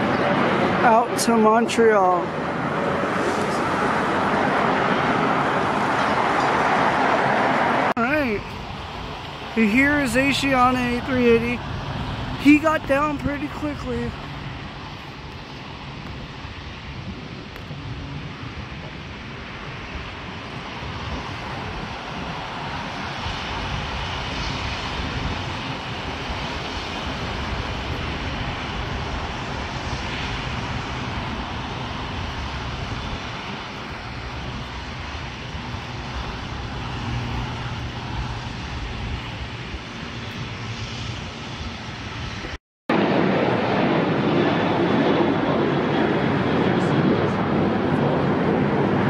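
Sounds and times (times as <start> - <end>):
distant jet engines rumbling: 0.0 - 49.0
loud rush of noise: 0.0 - 49.0.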